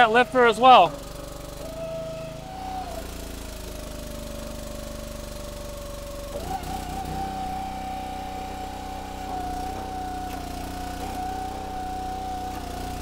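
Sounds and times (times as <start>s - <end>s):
hydraulic high whine: 0.0s - 13.0s
small gasoline engine running: 0.0s - 13.0s.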